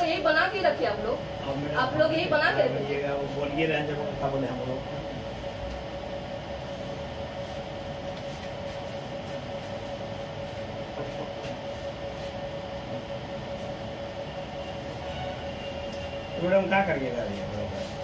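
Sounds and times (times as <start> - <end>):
constant mid-pitched tone: 0.0 - 18.0
office background hum: 0.0 - 18.0.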